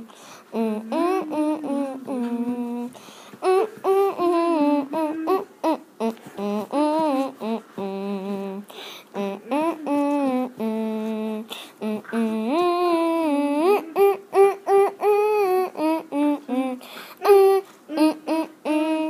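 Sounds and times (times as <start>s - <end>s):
person singing unaccompanied: 0.0s - 19.0s.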